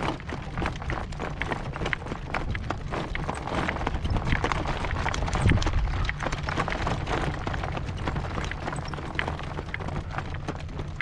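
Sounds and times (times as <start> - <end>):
horse hooves clopping on rocks: 0.0 - 11.0
wind buffeting microphone: 0.0 - 11.0.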